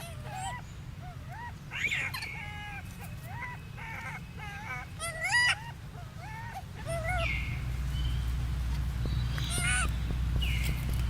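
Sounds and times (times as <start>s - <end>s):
monkey high-pitched calls: 0.0s - 8.3s, 9.0s - 10.9s.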